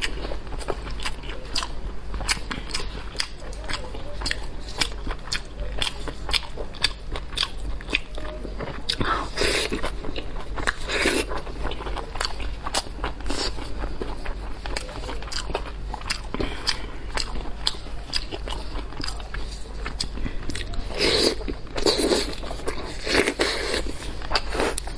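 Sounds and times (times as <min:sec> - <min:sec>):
wet chewing: 0:00.0 - 0:24.9.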